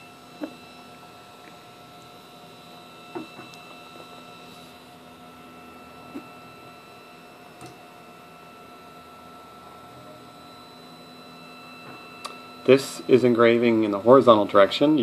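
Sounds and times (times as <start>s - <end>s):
printer motors whining: 0.0s - 15.0s.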